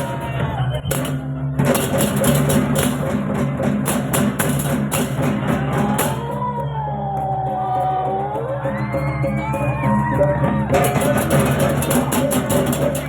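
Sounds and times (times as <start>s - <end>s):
drums: 0.0s - 13.0s.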